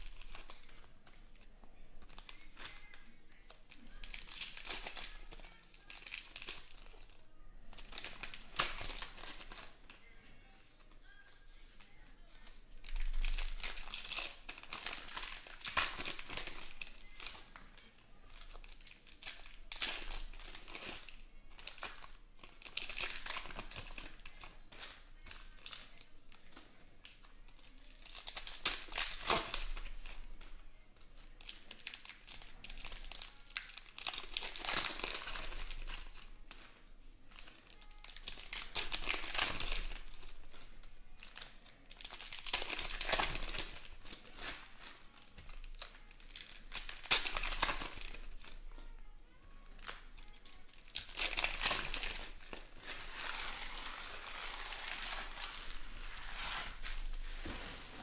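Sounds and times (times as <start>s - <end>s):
wrappers torn and crinkled: 0.0s - 58.0s.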